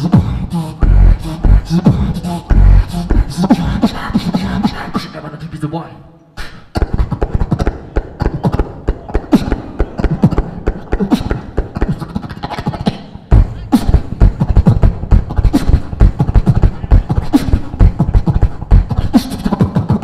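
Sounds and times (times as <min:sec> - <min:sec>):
beatboxing into a microphone: 0:00.0 - 0:20.0.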